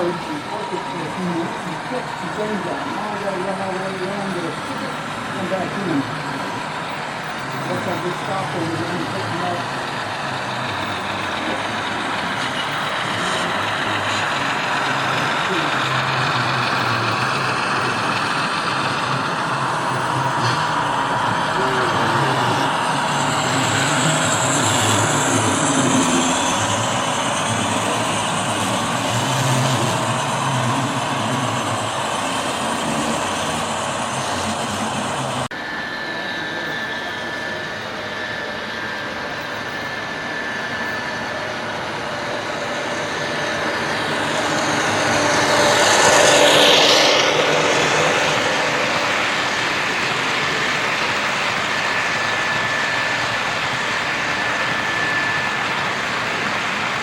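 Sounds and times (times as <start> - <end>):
model trains running: 0.0 - 57.0.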